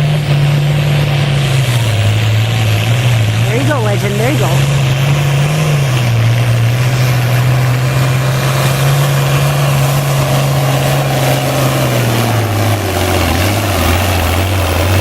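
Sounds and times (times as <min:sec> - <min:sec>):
tractor engine at full throttle: 0:00.0 - 0:15.0.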